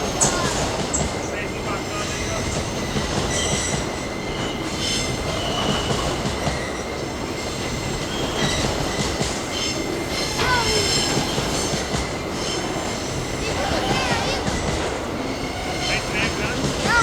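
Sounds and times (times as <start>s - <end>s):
rumble of wheels on track: 0.0s - 17.0s.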